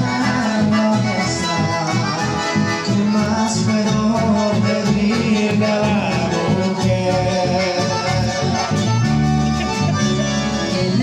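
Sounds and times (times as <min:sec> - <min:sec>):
accordion: 0:00.0 - 0:11.0
guitar: 0:00.0 - 0:11.0
rhythmic bass line: 0:00.0 - 0:11.0.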